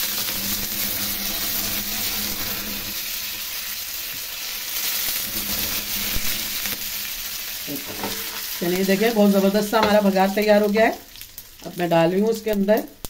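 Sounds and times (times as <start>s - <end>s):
hot oil sizzling in a pan: 0.0s - 13.0s.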